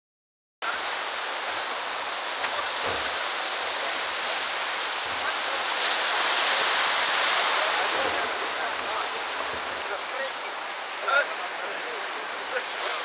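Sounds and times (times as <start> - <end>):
water rushing around boat bow: 0.6 - 13.0
wave breaking: 0.6 - 13.0.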